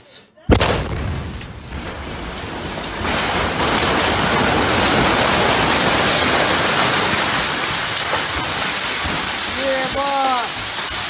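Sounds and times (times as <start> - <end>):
debris raining down after explosion: 0.5 - 11.0.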